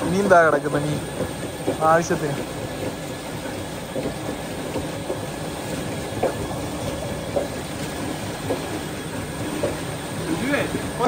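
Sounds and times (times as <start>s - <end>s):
motor pump running: 0.0s - 11.0s
water pouring down channel: 0.0s - 11.0s.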